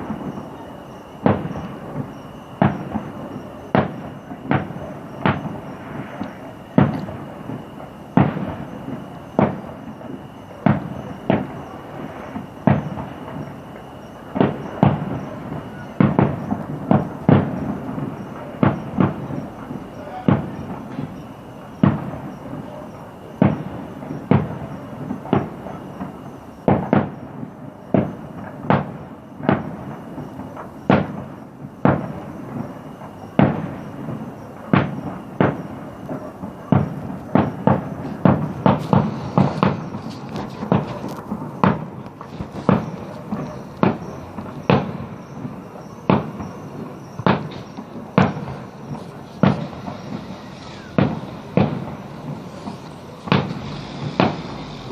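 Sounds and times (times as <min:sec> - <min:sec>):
fireworks shells bursting: 0:00.0 - 0:54.9.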